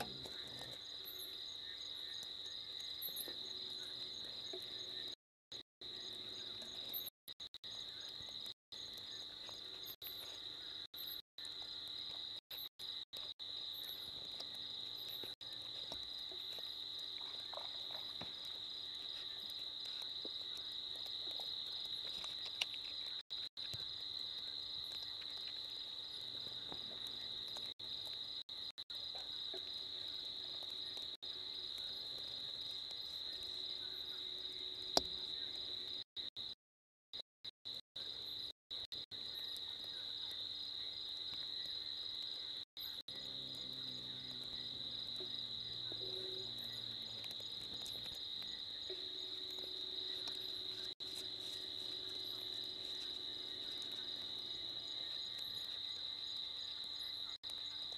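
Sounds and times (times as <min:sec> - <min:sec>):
crickets trilling: 0:00.0 - 0:36.6, 0:37.2 - 0:57.9.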